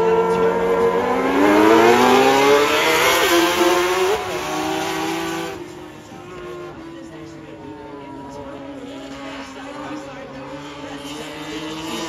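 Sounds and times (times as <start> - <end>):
race car engines accelerating: 0.0 - 12.0.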